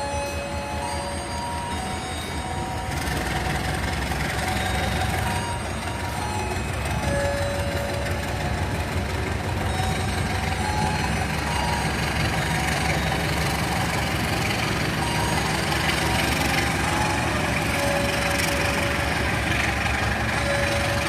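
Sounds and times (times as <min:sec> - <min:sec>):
diesel locomotive engine rumbling: 0:00.0 - 0:21.0.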